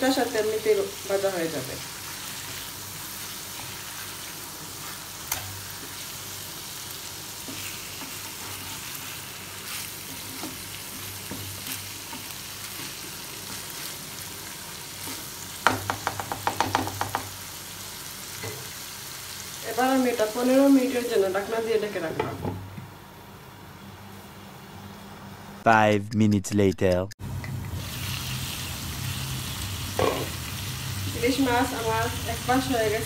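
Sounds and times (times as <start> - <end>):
fish sizzling in frying pan: 0.0 - 21.3, 27.6 - 33.0.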